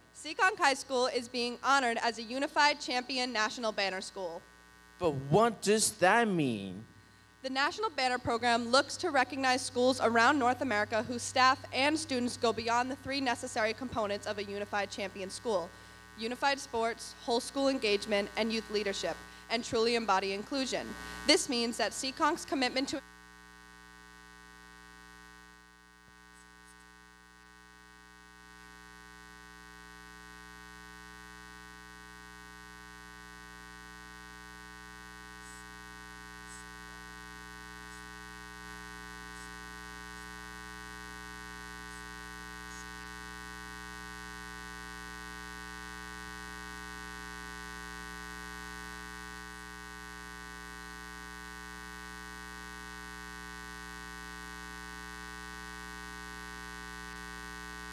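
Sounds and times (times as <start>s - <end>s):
electrical mains hum: 0.0s - 57.9s.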